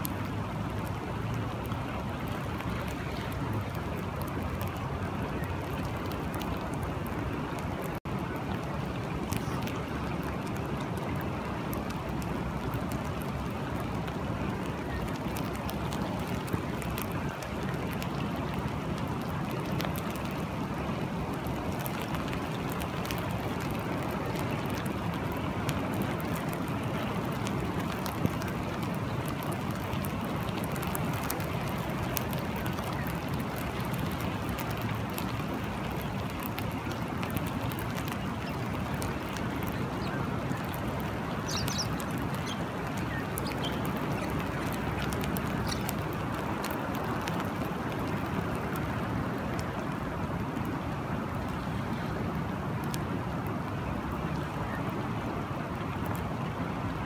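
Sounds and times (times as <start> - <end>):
flowing river rushing: 0.0 - 57.0
rain falling on water: 0.0 - 57.0.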